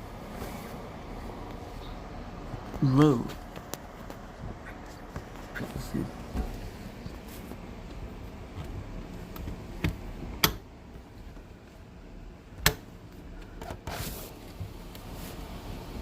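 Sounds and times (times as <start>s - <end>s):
steady low background noise: 0.0s - 16.0s.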